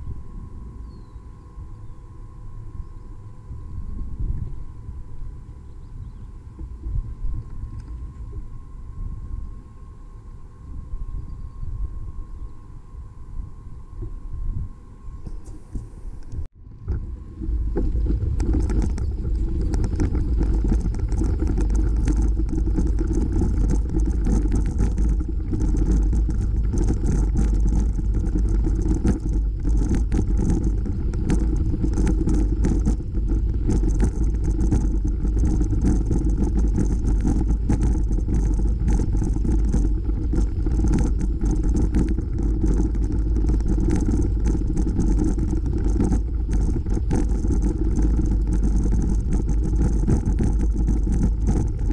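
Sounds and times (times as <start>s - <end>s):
bicycle tyres rolling on gravel: 2.8s - 9.8s, 15.3s - 51.9s.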